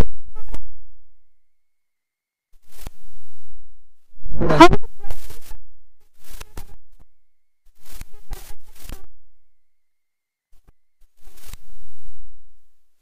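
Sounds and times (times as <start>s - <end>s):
faint high-pitched whine: 0.0s - 13.0s.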